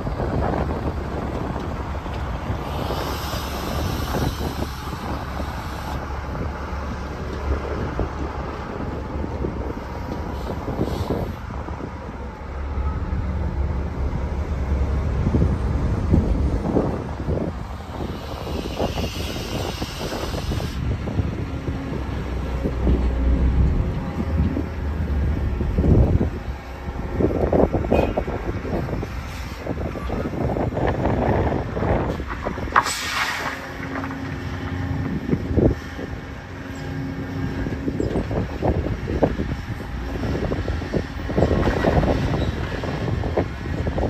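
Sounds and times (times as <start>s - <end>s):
diesel truck driving past: 0.0s - 44.0s
heavy equipment rumble: 0.0s - 44.0s
wind buffeting microphone: 0.0s - 44.0s.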